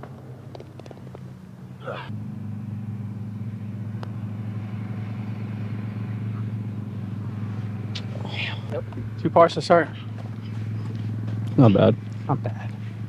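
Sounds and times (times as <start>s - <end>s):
golf cart motor humming: 0.0s - 13.0s.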